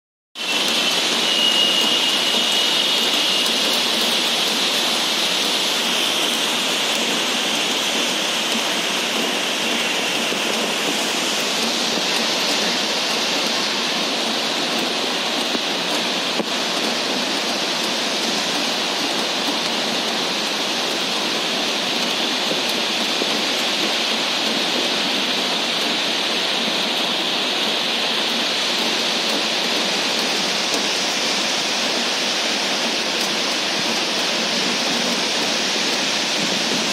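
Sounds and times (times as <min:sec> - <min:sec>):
rushing water: 0:00.4 - 0:36.9.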